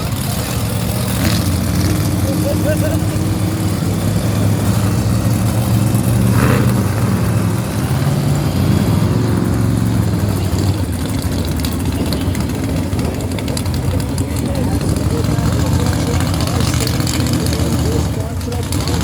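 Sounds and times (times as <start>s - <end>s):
monster truck engines idling: 0.0s - 19.0s.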